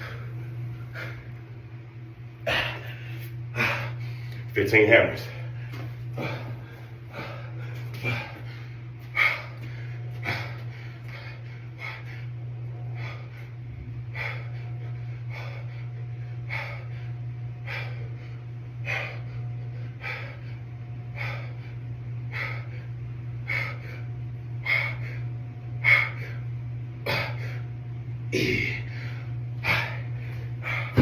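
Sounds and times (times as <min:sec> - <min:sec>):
man breathing hard: 0:00.0 - 0:01.4, 0:02.4 - 0:04.5, 0:05.2 - 0:27.7, 0:28.4 - 0:31.0
steady low hum: 0:00.0 - 0:31.0.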